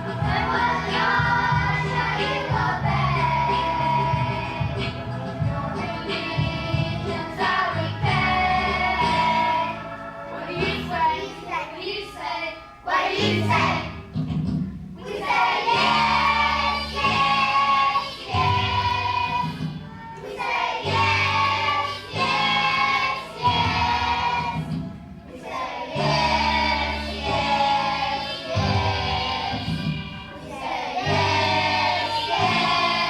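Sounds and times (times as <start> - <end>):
musical accompaniment with bass: 0.0 - 12.0, 12.8 - 33.0
children's choir singing: 0.0 - 14.1, 15.0 - 33.0.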